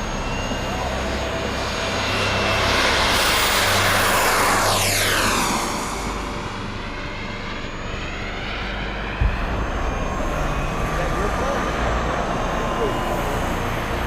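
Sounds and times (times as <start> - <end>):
model jet turbine passing: 0.0 - 14.0.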